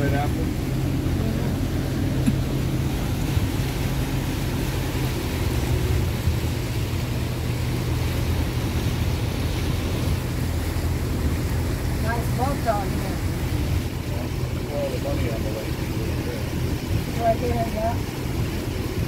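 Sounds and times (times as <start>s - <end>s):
outboard motor running: 0.0s - 19.0s
wind and water hiss: 0.0s - 19.0s.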